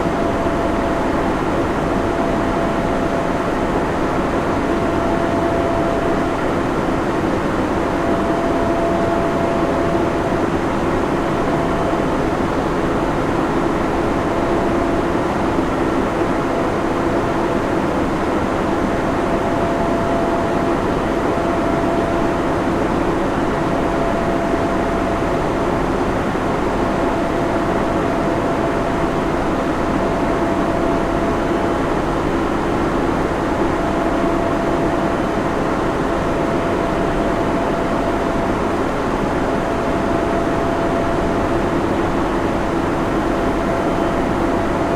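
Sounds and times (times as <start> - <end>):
constant low hum: 0.0 - 44.9
cooling fans rushing: 0.0 - 44.9
thin steady whine: 0.0 - 44.9.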